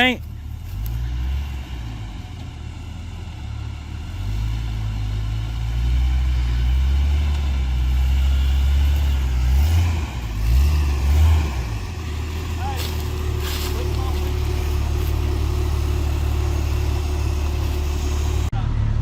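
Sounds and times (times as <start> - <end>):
off-road vehicle engine under load: 0.0 - 19.0.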